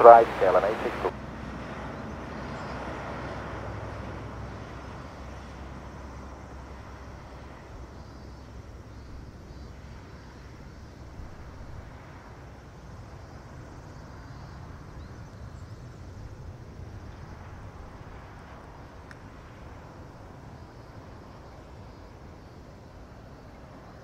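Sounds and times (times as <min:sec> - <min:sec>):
distant jet engine rumble: 0:00.0 - 0:24.0.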